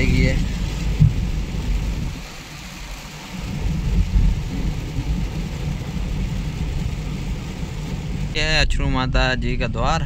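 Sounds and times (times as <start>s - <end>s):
car engine and tyres rumble: 0.0s - 10.0s
heavy rain on car roof: 0.0s - 10.0s.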